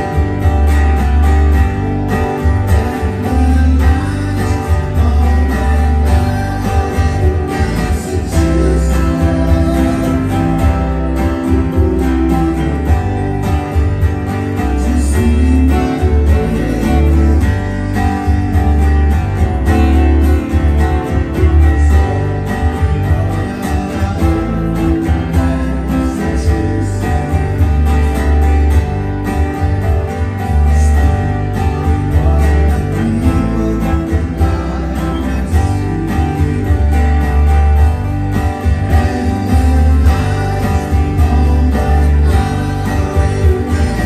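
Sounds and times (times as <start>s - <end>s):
acoustic guitar strumming chords: 0.0s - 44.0s.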